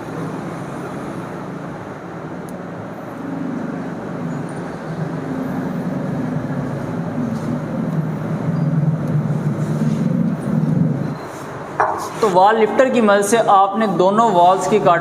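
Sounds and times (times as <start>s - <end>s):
vehicle engine droning: 0.0s - 12.0s
street traffic noise: 0.0s - 15.0s.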